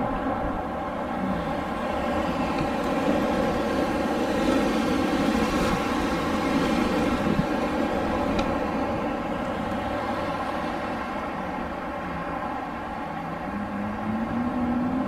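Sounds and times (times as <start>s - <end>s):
steady rushing air noise: 0.0s - 15.0s.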